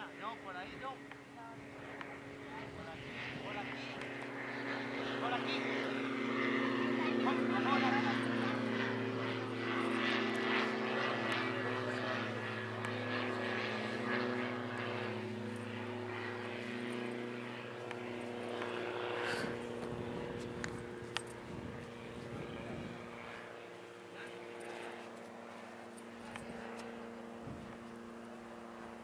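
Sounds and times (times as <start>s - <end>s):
propeller aircraft engine drone: 0.0s - 29.0s.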